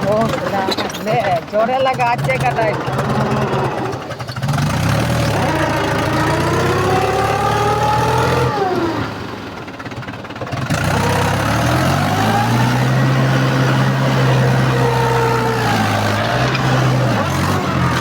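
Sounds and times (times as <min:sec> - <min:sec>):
tractor diesel engine revving: 0:00.0 - 0:18.0.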